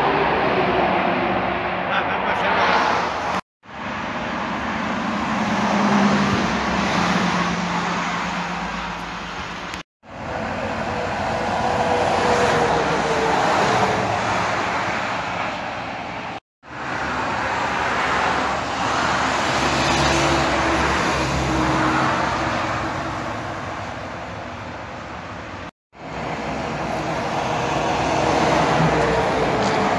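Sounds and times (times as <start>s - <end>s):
highway traffic passing: 0.0s - 29.9s.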